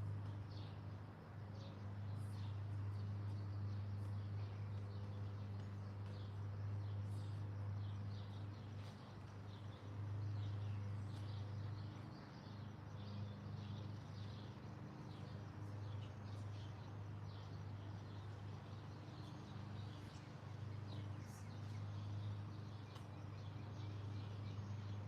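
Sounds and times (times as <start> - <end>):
steady low hum: 0.0 - 25.0
small birds chirping: 1.5 - 25.0.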